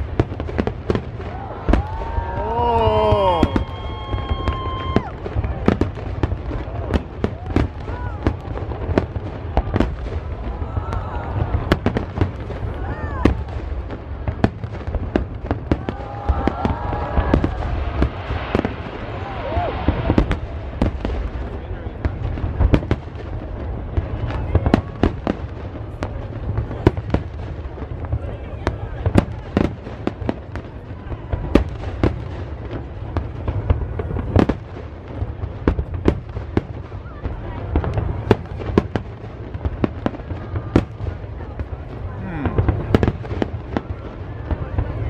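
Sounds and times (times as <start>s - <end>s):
fireworks bangs and crackling pops: 0.0s - 45.0s
whistling fireworks: 0.0s - 45.0s.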